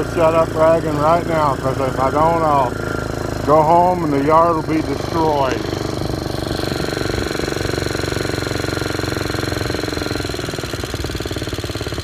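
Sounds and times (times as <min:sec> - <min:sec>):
single-cylinder engine running: 0:00.0 - 0:12.0.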